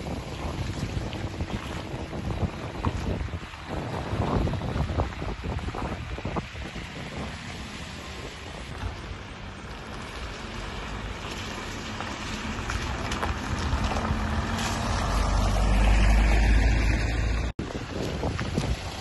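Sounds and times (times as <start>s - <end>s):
van driving past on wet road: 0.0s - 19.0s.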